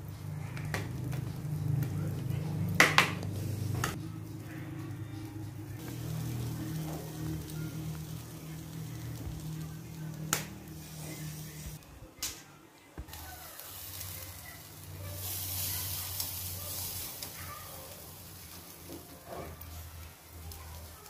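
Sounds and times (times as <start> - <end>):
chicken sizzling on grill: 0.0 - 11.8, 13.1 - 21.0.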